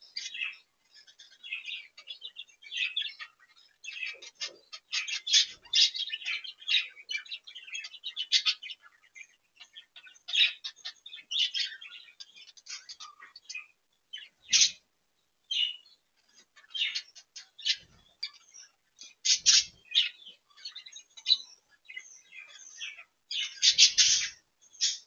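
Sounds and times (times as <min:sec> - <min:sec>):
budgerigars chattering: 0:00.0 - 0:14.9, 0:15.5 - 0:25.0.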